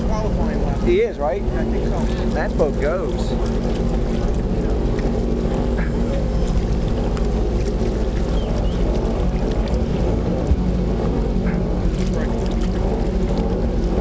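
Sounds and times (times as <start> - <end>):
motorboat engine running: 0.0 - 14.0.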